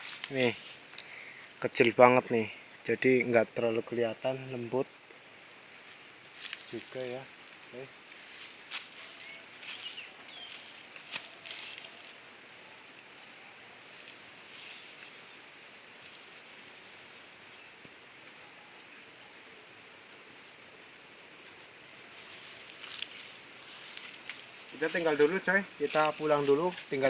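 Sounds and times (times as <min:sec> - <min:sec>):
steady high hiss: 0:00.0 - 0:27.0.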